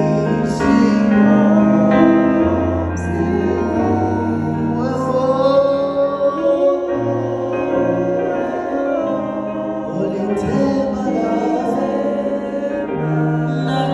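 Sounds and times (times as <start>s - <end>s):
person singing long notes: 0.0s - 13.9s
slow music with sustained chords: 0.0s - 13.9s.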